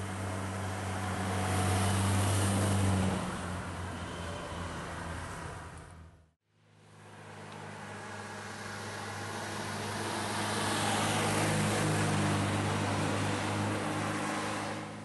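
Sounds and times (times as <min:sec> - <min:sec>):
car engine passing by: 0:00.1 - 0:05.7, 0:06.9 - 0:15.0.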